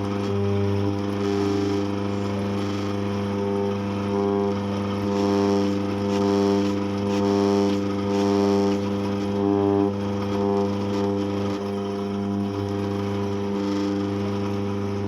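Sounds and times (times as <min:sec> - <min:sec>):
coffee grinder motor humming: 0:00.0 - 0:15.0.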